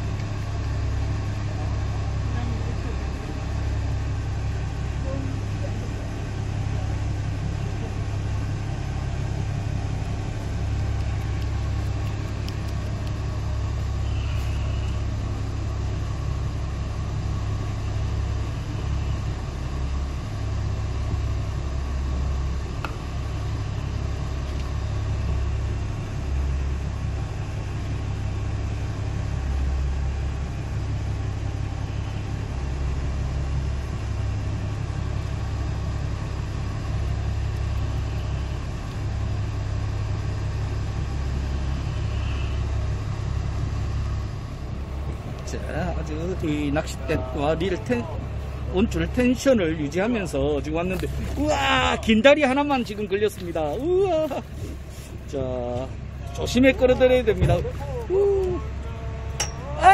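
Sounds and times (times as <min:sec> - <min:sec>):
boat engine idling: 0:00.0 - 0:59.9.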